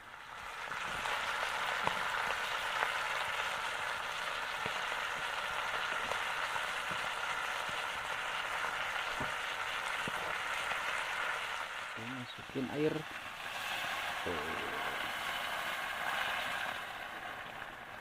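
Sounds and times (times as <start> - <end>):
fish and beans sizzling in oil: 0.0 - 18.0.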